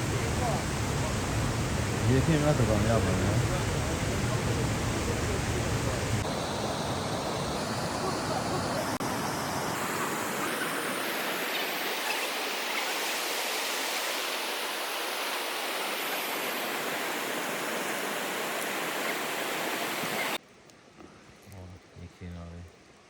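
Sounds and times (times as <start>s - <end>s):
rushing stream water: 0.0s - 20.4s.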